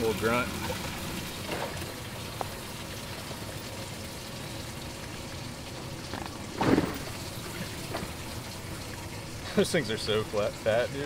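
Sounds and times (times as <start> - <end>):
water splashing into tank: 0.0 - 9.5.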